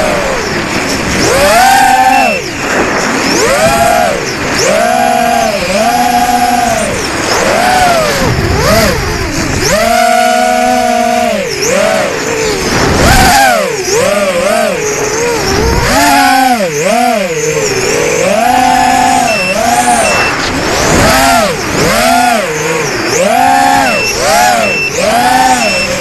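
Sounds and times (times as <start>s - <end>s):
bursts of rushing noise: 0.0s - 26.0s
drone motors buzzing whine: 0.0s - 26.0s.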